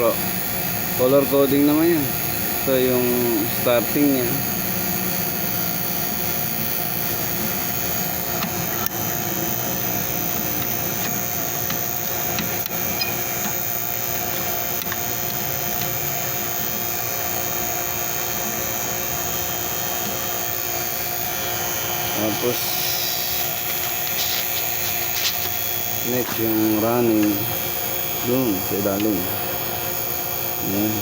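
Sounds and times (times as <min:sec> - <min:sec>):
vacuum pump running: 0:00.0 - 0:31.0.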